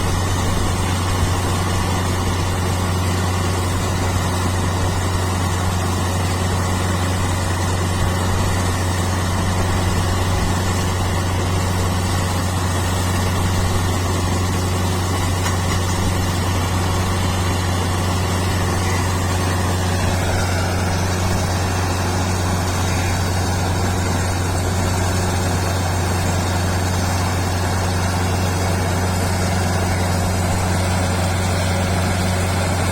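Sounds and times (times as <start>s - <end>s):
diesel engine low hum: 0.0s - 32.9s
thin high machine whine: 0.0s - 32.9s.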